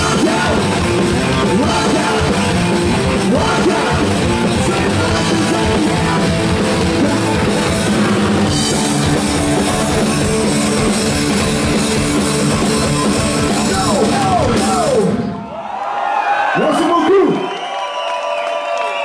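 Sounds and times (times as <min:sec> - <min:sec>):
drum kit: 0:00.0 - 0:15.3
bass guitar: 0:00.0 - 0:15.4
distorted electric guitars: 0:00.0 - 0:15.4.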